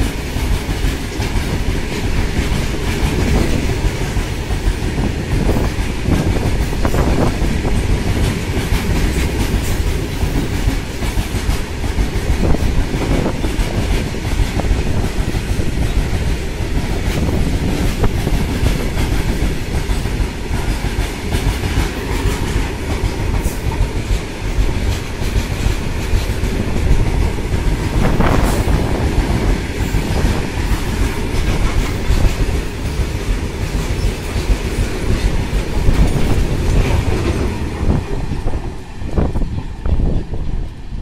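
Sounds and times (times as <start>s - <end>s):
wheels clacking over rail joints: 0.0s - 40.8s
freight train rumbling past: 0.0s - 41.0s.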